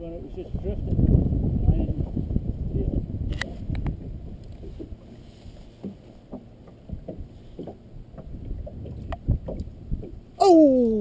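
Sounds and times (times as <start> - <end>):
small waves lapping against hull: 0.0 - 11.0.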